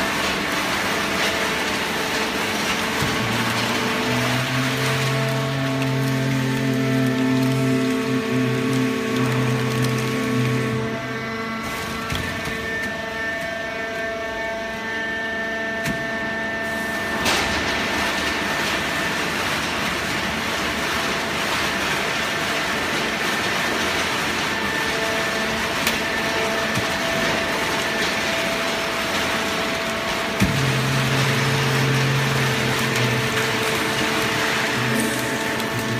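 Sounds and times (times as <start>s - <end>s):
baler machine hum with whining: 0.0s - 35.9s.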